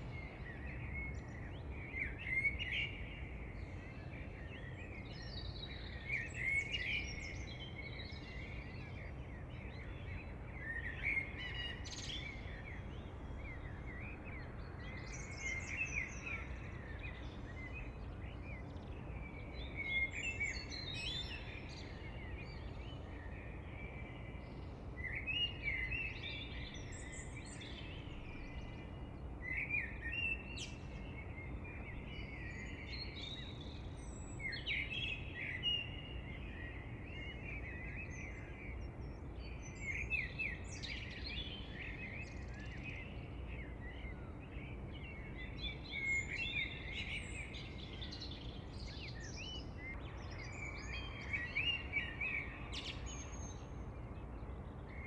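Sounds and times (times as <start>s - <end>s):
low background hiss: 0.0s - 55.0s
songbirds chirping and singing: 0.0s - 55.0s.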